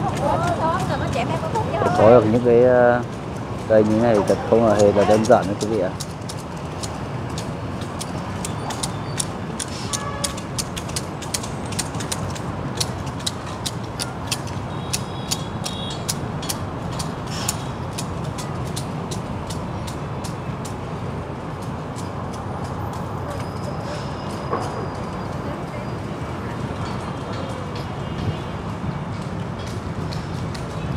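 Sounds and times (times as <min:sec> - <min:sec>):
street traffic hum: 0:00.0 - 0:30.9.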